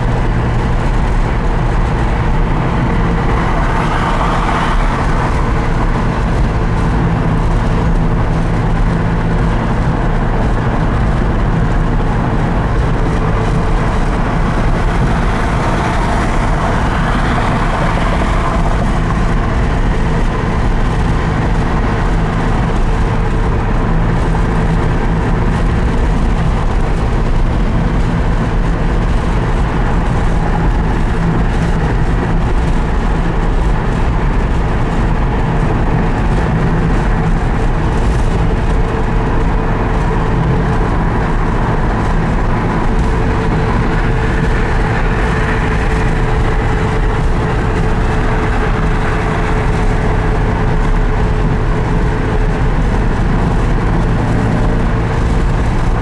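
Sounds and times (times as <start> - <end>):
car engine cruising: 0.0 - 56.0
wind noise: 0.0 - 56.0.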